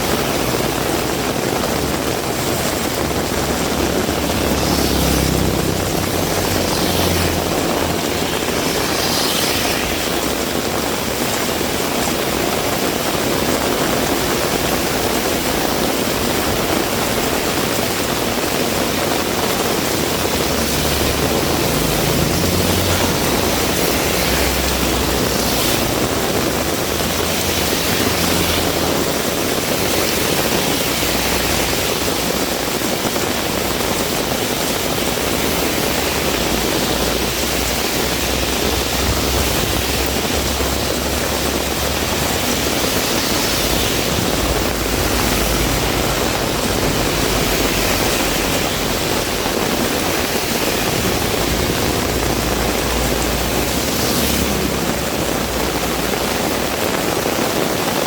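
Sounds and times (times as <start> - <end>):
heavy rain hissing: 0.0 - 58.0
low wind rumble: 0.0 - 58.0.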